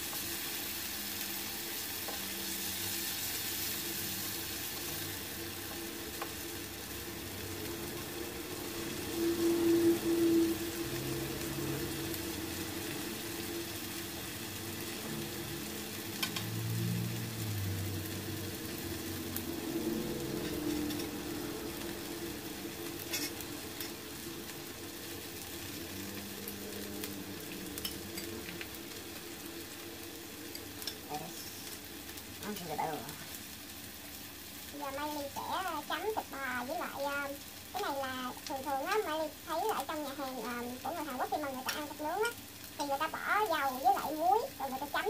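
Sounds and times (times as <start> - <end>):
meat sizzling on a grill pan: 0.0 - 45.0.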